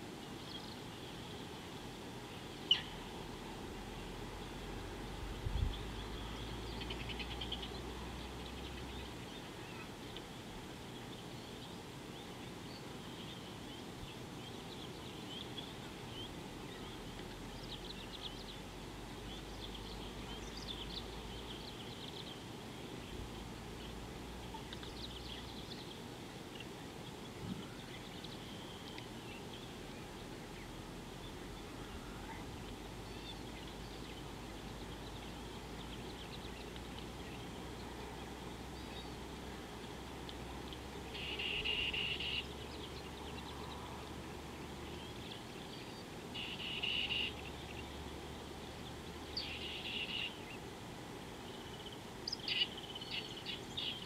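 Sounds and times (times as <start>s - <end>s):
steady low hiss and hum: 0.0s - 54.0s.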